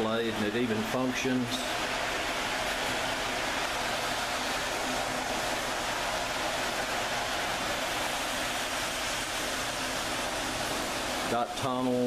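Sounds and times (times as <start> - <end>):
model trains whirring: 0.0 - 12.0.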